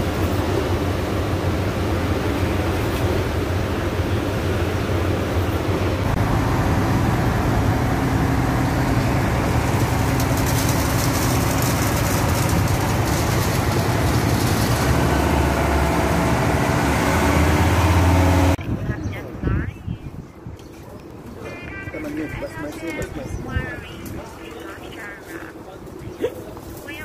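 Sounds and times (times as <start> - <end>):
construction machinery engine hum: 0.0 - 27.0.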